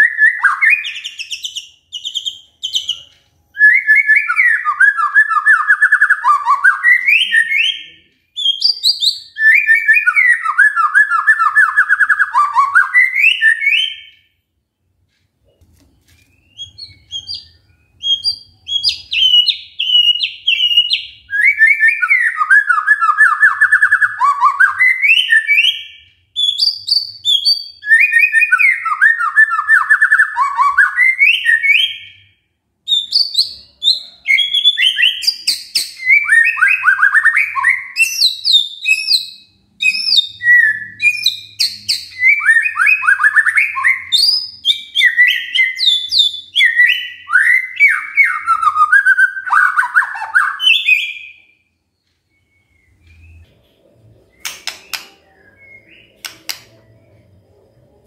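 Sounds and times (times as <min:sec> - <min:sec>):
bird singing whistles and trills: 0:00.0 - 0:14.4, 0:16.2 - 0:57.6.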